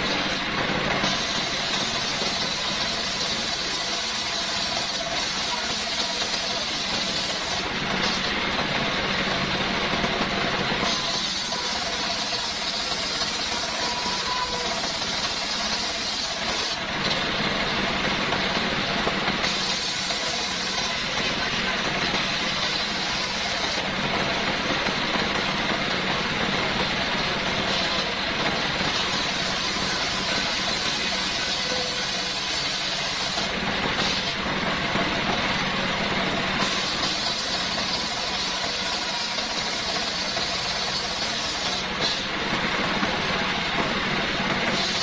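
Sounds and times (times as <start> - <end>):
circular saw cutting wood: 0.0 - 35.1, 36.6 - 42.4, 44.6 - 45.0.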